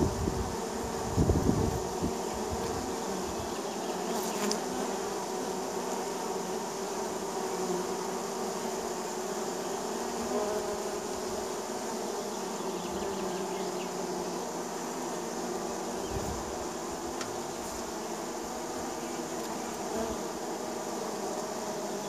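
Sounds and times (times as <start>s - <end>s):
honey bees buzzing: 0.0s - 22.0s.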